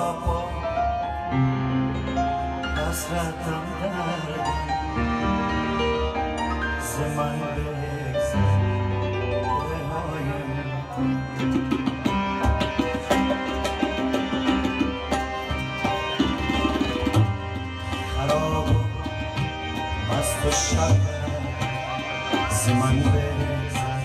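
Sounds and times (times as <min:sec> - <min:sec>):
harmonium melody: 0:00.0 - 0:24.0
tabla rhythm: 0:00.0 - 0:24.0.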